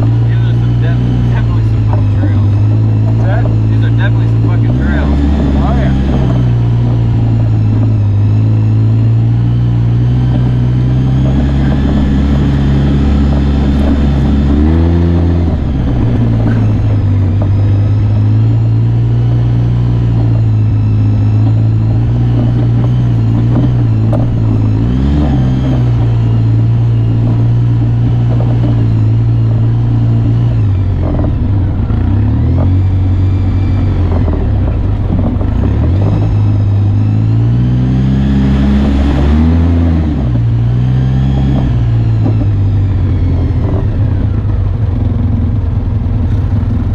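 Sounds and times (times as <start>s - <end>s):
off-road vehicle engine: 0.0s - 46.9s.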